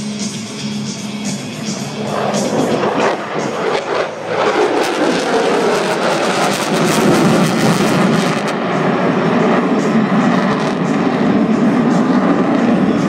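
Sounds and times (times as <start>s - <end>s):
fighter jet engine noise: 0.0s - 13.0s.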